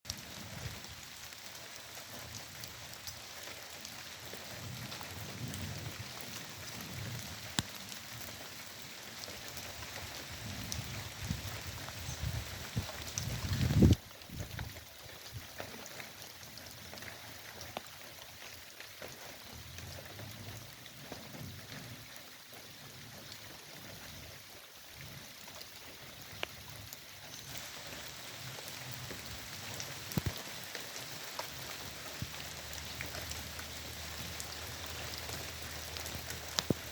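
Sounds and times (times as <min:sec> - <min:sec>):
raindrops landing close by: 0:00.1 - 0:36.9
steady rain falling: 0:00.1 - 0:36.9.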